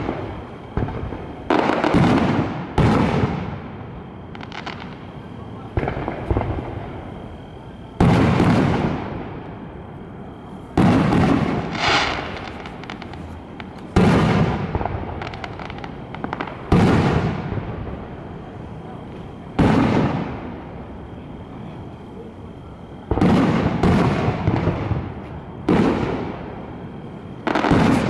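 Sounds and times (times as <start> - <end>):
firework shells booming: 0.0 - 22.0, 22.8 - 28.0
firework crackles: 0.0 - 28.0.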